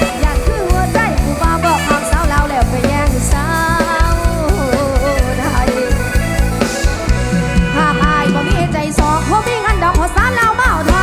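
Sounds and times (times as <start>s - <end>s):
drum and bass beat: 0.0s - 11.0s
live band music: 0.0s - 11.0s.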